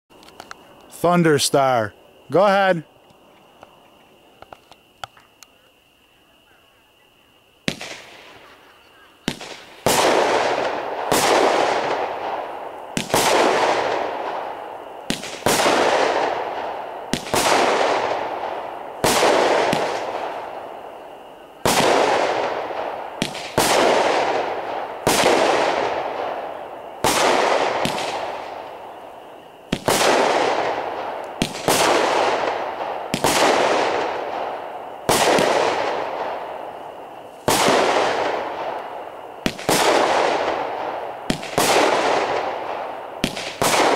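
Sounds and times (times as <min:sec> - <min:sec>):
firework bangs: 0:07.6 - 0:43.9
firework sparks hissing: 0:07.6 - 0:43.9.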